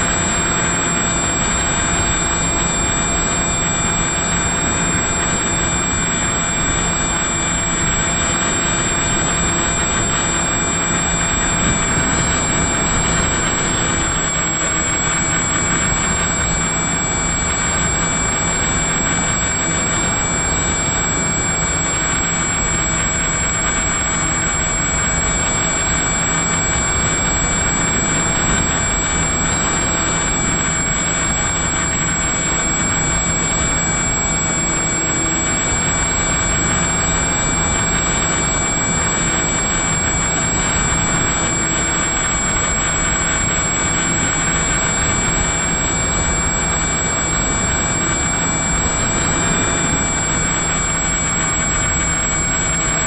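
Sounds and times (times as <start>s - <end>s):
electric motor and propeller whine: 0.0s - 53.0s
wind noise: 0.0s - 53.0s.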